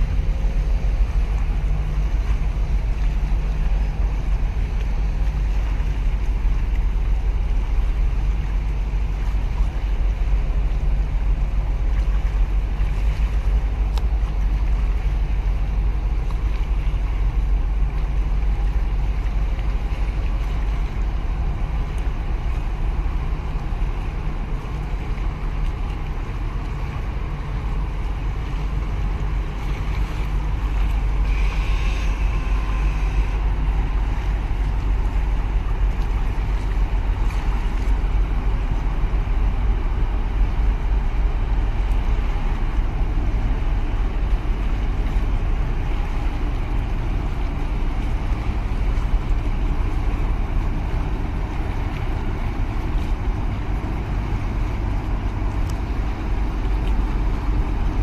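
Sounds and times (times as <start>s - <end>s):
ship low rumble: 0.0s - 58.0s.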